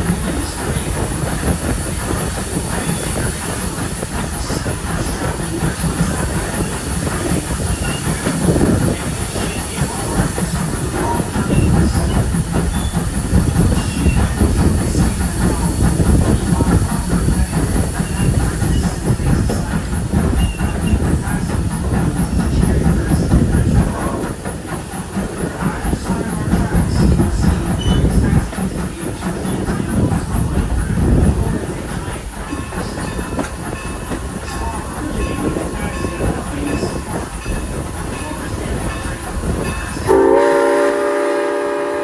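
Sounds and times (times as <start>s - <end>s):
wheels clattering over rail joints: 0.0s - 40.2s
train rumbling on track: 0.0s - 42.0s.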